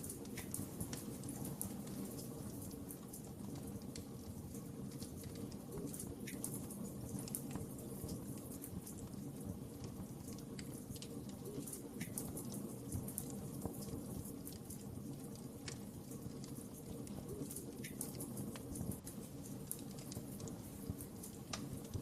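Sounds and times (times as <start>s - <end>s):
fire crackling in a fireplace: 0.0s - 22.0s.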